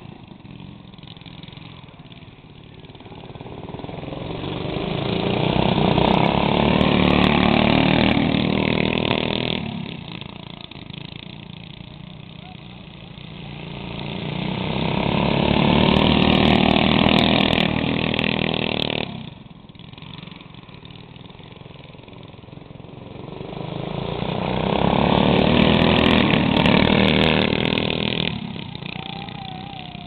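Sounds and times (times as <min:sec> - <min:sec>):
go-kart engines passing: 0:00.0 - 0:30.0.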